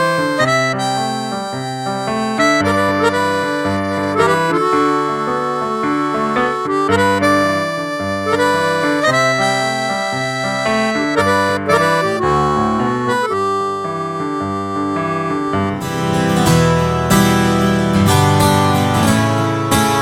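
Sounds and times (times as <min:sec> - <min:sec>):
keyboard harmonica melody: 0:00.0 - 0:20.0.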